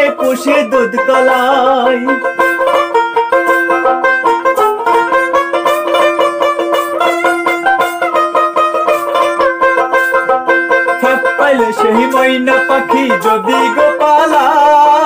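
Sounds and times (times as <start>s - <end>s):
plucked lute melody: 0.0s - 15.0s.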